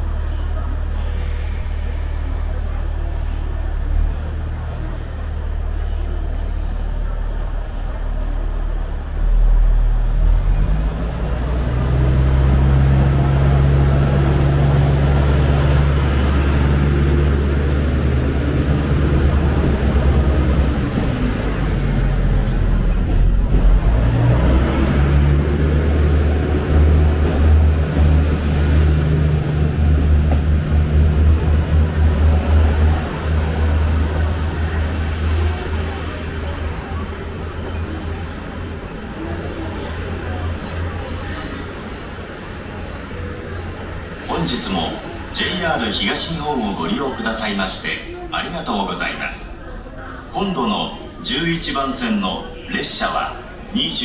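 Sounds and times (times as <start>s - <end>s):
wheel and rail noise: 0.0s - 48.3s
diesel train engine drone: 0.0s - 54.0s.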